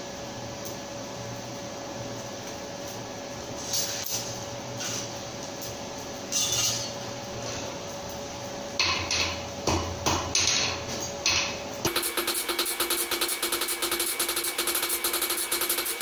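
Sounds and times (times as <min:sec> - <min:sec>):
forge blower hum: 0:00.0 - 0:16.0.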